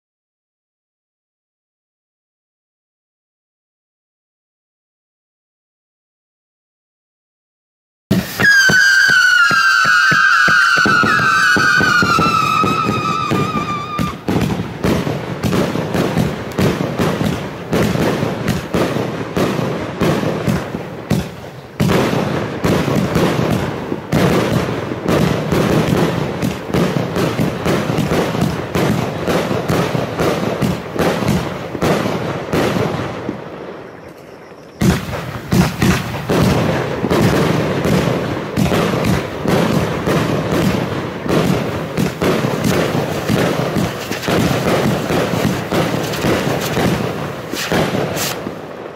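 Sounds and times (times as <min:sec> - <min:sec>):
fireworks bangs and crackling: 0:08.1 - 0:48.9.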